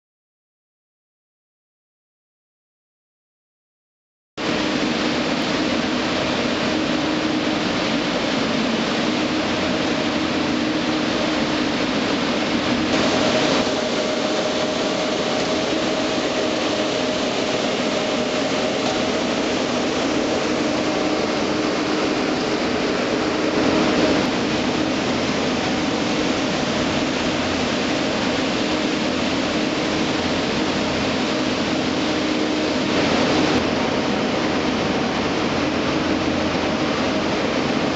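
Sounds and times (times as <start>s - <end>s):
concrete mixer and pump droning: 4.4s - 37.9s.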